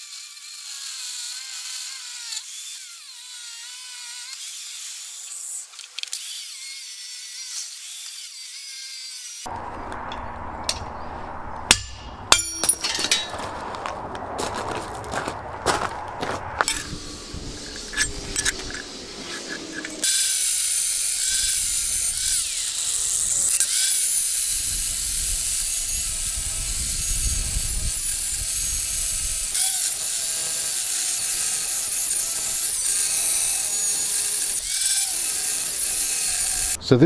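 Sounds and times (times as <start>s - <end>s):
angle grinder cutting steel: 0.0s - 10.9s, 16.2s - 36.8s.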